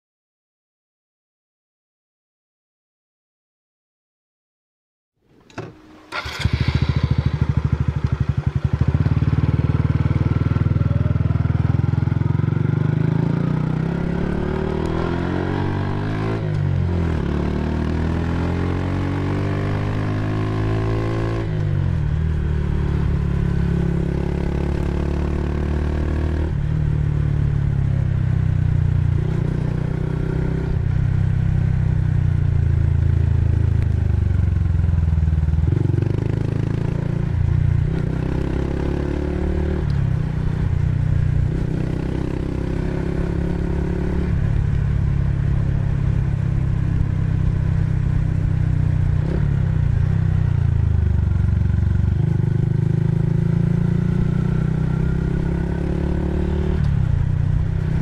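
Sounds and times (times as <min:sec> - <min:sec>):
motorcycle engine revving: 0:05.6 - 0:58.0.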